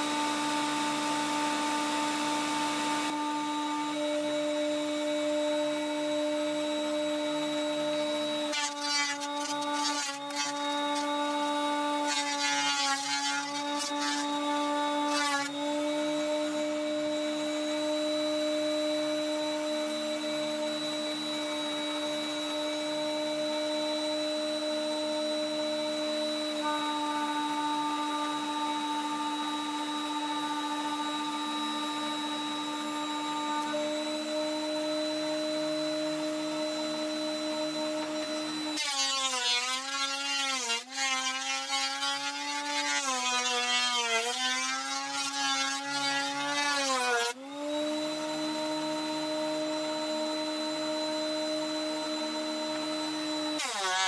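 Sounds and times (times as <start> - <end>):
rough planer cutting noise: 0.0 - 54.0
thickness planer motor whine: 0.0 - 54.0.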